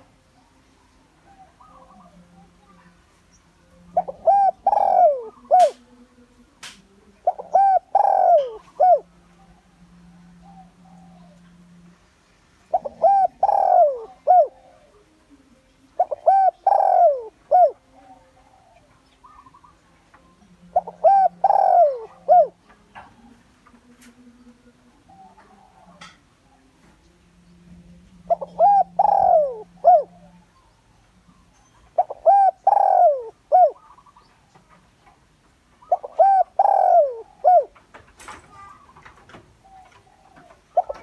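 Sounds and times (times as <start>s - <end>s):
dove cooing: 0.0s - 3.0s, 3.7s - 6.0s, 7.0s - 11.9s, 12.6s - 41.0s.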